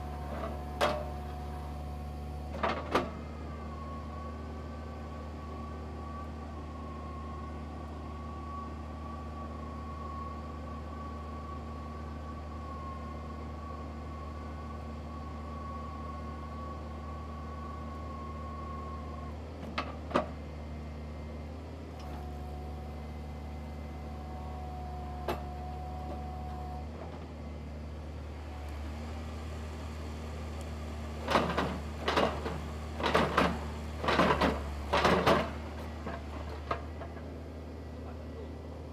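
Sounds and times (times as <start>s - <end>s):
diesel engine running: 0.0s - 19.7s, 20.6s - 38.9s.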